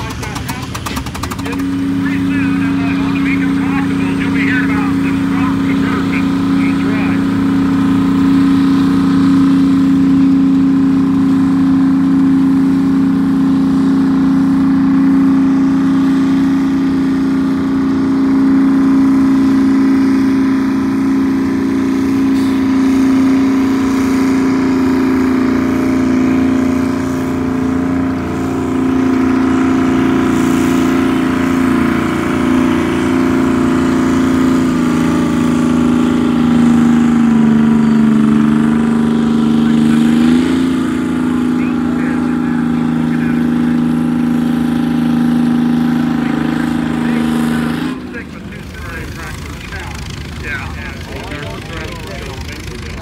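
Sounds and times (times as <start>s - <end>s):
tractor engine running hard: 0.0s - 53.0s.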